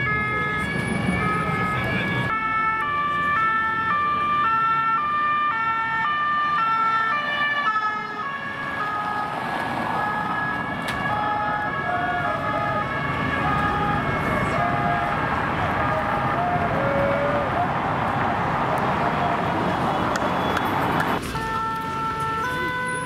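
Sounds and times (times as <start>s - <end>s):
car traffic: 0.0s - 23.0s
two-tone police sirens: 0.0s - 23.0s.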